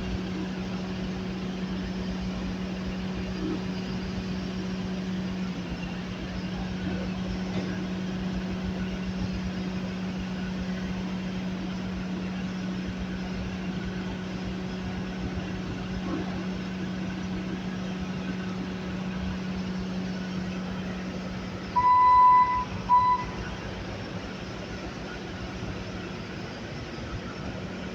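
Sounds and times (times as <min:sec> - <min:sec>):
skid steer engine running: 0:00.0 - 0:27.9.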